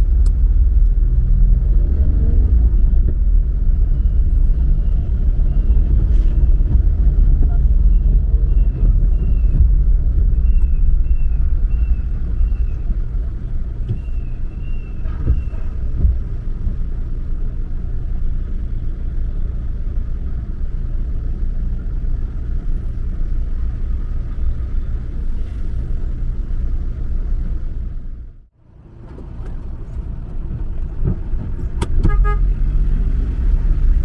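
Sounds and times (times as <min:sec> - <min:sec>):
car driving rumble: 0:00.0 - 0:34.0.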